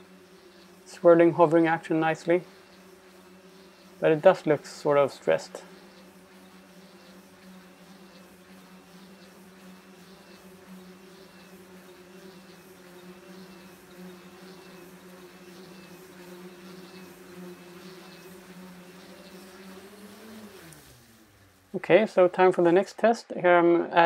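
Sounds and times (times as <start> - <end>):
electric motors and propellers humming: 0.0 - 22.8.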